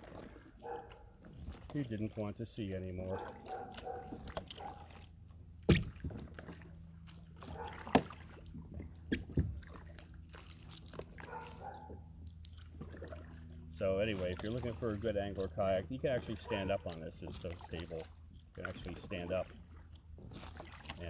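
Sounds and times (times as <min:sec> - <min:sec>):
water sloshing from paddle strokes: 0:00.0 - 0:21.0.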